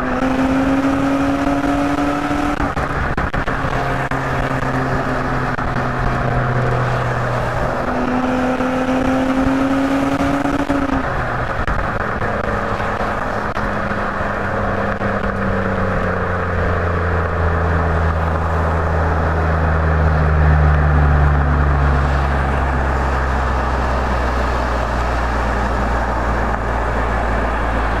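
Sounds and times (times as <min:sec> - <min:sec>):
car exhaust while driving: 0:00.0 - 0:28.0.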